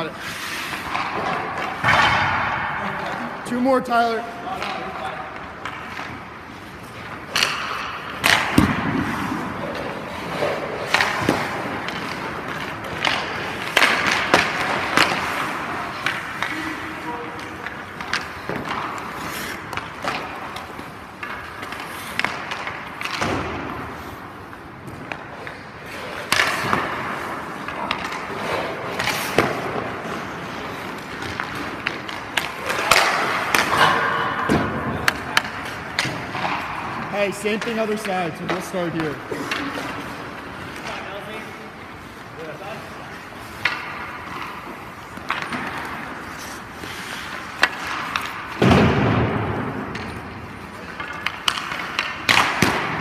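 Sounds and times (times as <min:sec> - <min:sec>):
skates scraping on ice: 0:00.0 - 0:02.4, 0:04.0 - 0:53.0
hockey sticks shooting pucks: 0:00.0 - 0:53.0
pucks striking pads and boards: 0:00.0 - 0:53.0.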